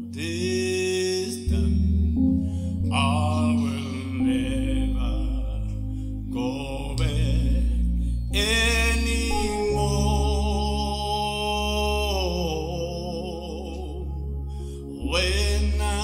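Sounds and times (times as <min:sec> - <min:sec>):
electronic keyboard chords: 0:00.0 - 0:16.0
singer holding a long note: 0:00.0 - 0:16.0.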